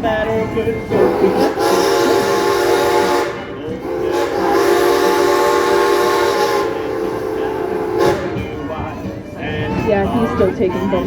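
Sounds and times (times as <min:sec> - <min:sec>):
steam locomotive whistle blasts: 0:00.0 - 0:09.2.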